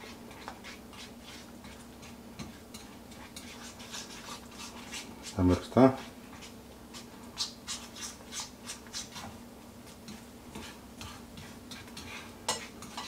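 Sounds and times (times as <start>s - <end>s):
utensil scraping frying pan: 0.0s - 9.4s, 10.0s - 13.0s
faint steady hum: 0.0s - 13.0s.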